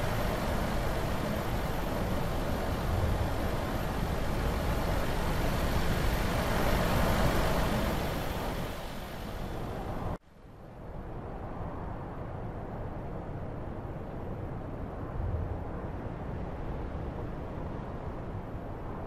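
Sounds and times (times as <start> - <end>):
truck tyre and wind noise: 0.0 - 19.0.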